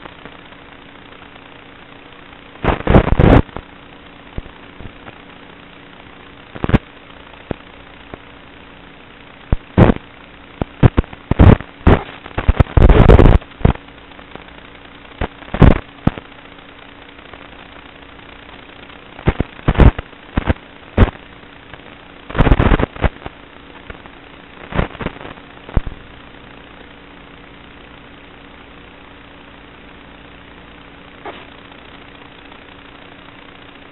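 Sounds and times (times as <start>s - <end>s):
faint steady hum: 0.0s - 33.9s
loud irregular crackling bursts: 0.0s - 33.9s.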